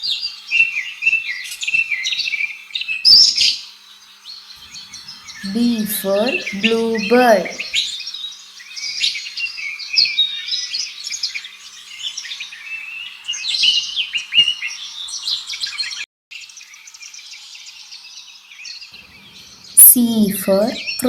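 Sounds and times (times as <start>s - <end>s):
background hiss: 0.0s - 21.0s
bird chirping and warbling: 0.0s - 21.0s.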